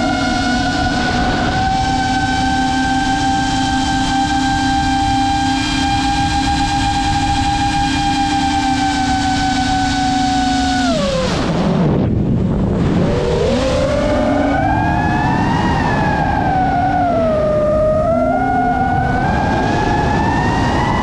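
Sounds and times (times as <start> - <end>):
quadcopter motors whining: 0.0 - 11.6, 12.9 - 21.0.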